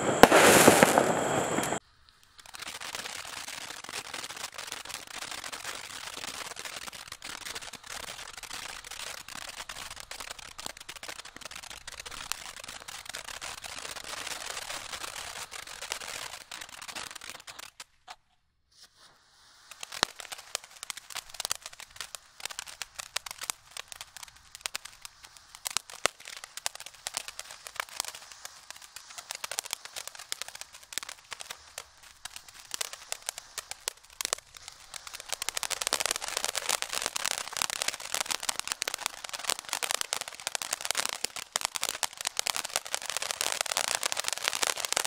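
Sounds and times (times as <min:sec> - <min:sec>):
firework fountain hissing sparks: 0:00.0 - 0:17.8, 0:19.2 - 0:45.0
firework crackles and pops: 0:00.0 - 0:45.0.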